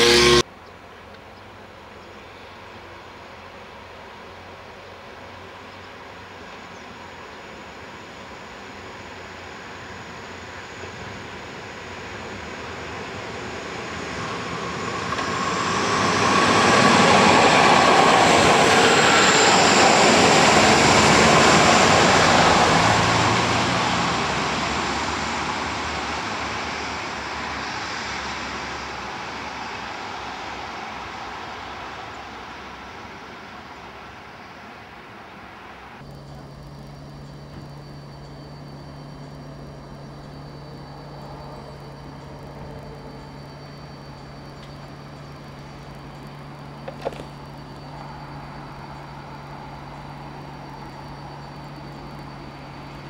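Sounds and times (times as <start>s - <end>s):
diesel railcar passing: 0.0s - 53.0s.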